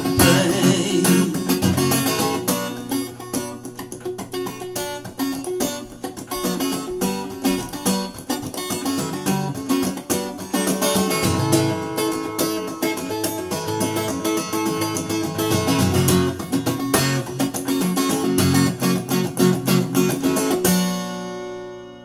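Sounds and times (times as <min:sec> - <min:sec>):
acoustic guitar piece: 0:00.0 - 0:22.0.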